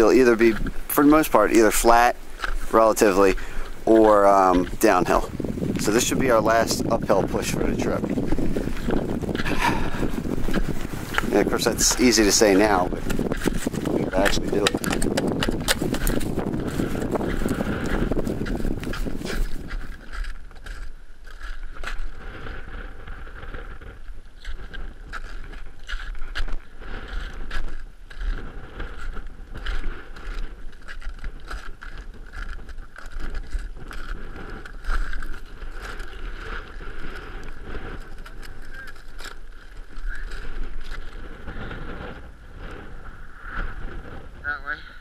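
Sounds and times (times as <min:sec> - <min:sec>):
footsteps on packed snow: 0:00.0 - 0:44.2
wind buffeting microphone: 0:00.0 - 0:45.0.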